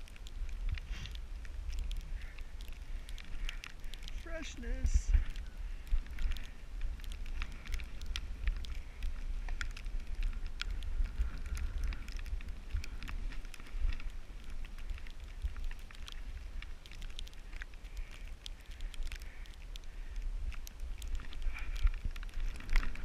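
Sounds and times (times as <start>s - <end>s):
sharp clicks and crackles: 0.0s - 23.0s
wind buffeting microphone: 0.0s - 23.0s.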